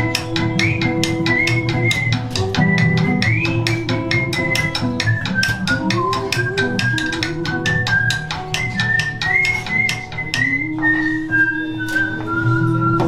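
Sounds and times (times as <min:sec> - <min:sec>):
clicking percussion beat: 0:00.0 - 0:11.1.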